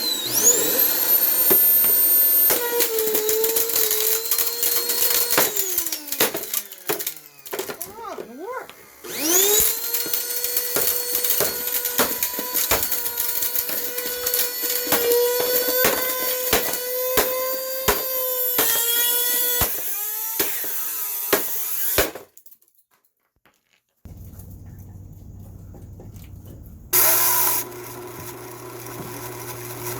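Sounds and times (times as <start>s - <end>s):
vacuum cleaner motor whining: 0.0s - 20.3s, 24.1s - 29.9s.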